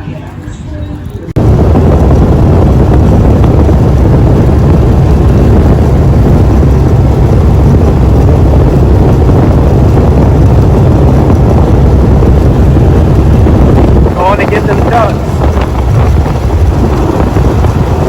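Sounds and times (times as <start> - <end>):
boat engine drone: 0.0 - 18.0
wind rumble on microphone: 0.0 - 18.0.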